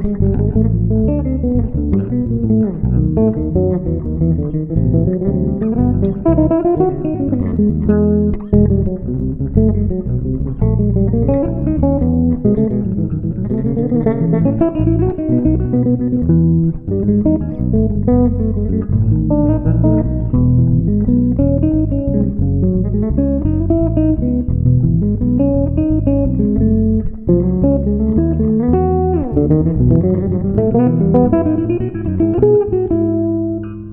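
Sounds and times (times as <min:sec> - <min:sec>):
electric bass playing: 0:00.0 - 0:33.9.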